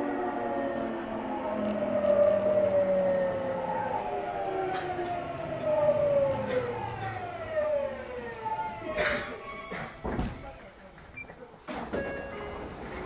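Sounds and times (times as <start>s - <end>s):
train running noise: 0.0s - 11.1s.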